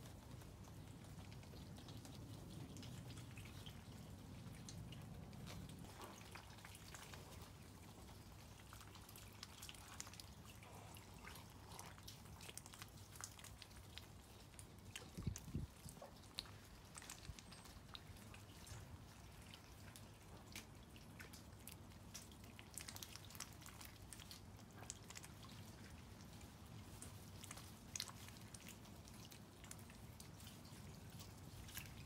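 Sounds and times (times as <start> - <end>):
rainwater dripping: 0.0 - 32.0.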